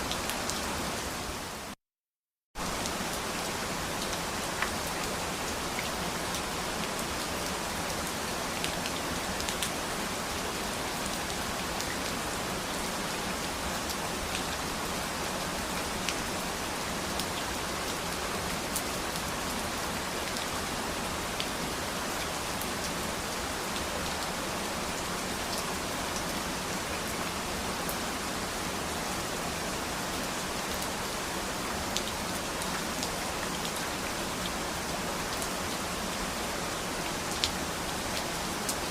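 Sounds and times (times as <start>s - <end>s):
steady rain falling: 0.0s - 1.8s, 2.6s - 38.9s.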